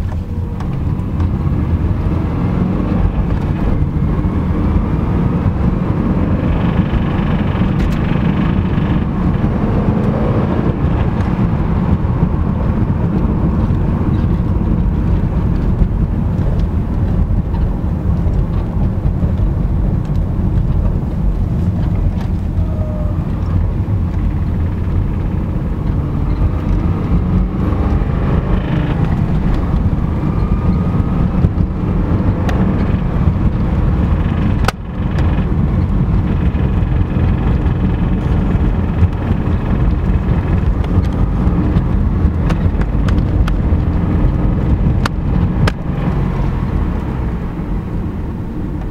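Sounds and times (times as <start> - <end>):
car engine knocking: 0.0 - 48.9.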